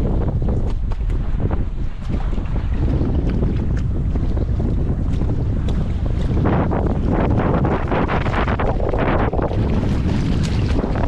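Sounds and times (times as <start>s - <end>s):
seawater splashing among rocks: 0.0s - 11.0s
wind buffeting microphone: 0.0s - 11.0s.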